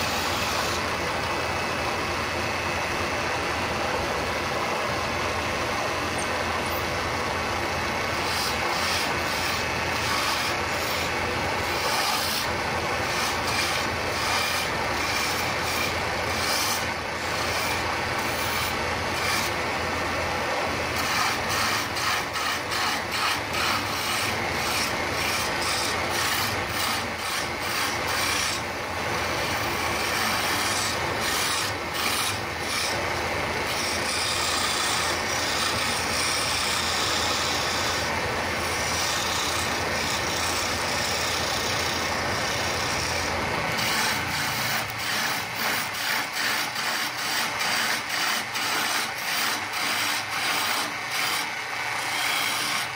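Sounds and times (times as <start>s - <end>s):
tool rasping on spinning wood: 0.0s - 3.0s, 4.4s - 52.9s
lathe motor hum: 0.0s - 52.9s.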